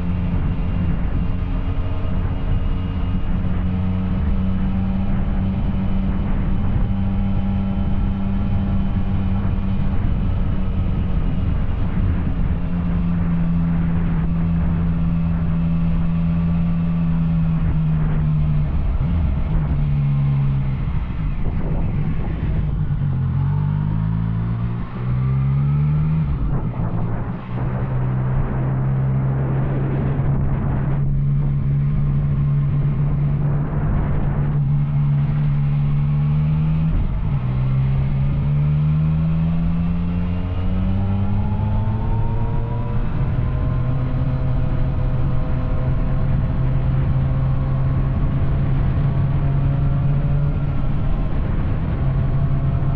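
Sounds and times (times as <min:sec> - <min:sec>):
motorcycle engine revving: 0:00.0 - 0:52.9
wind rush: 0:00.0 - 0:52.9.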